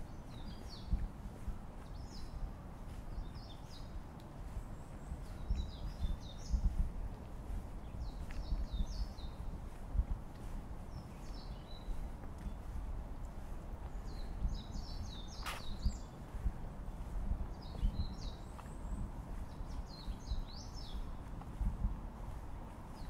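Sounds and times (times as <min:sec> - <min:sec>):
footsteps on forest path: 0:00.0 - 0:23.0
songbirds chirping: 0:00.0 - 0:23.0
steady low rumble: 0:00.0 - 0:23.0.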